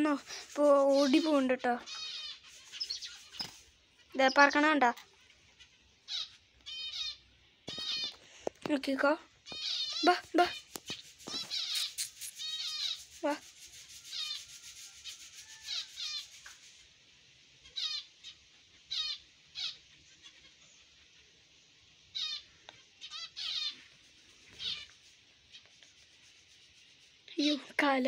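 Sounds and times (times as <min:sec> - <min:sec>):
baby bird chirping: 0:00.0 - 0:16.7, 0:17.6 - 0:21.2, 0:22.1 - 0:27.9.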